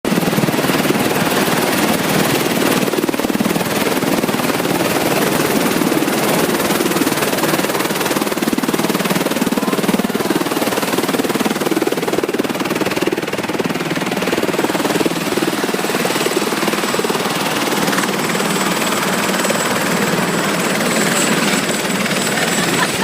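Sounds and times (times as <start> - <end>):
helicopter rotor drone: 0.1 - 23.0.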